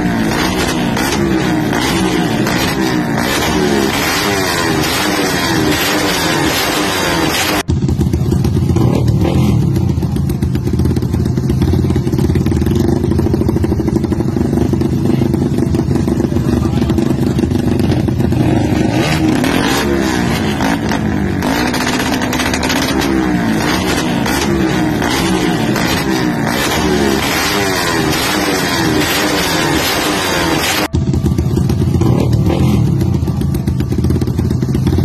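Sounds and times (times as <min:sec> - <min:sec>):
motorcycles revving: 0:00.0 - 0:35.0.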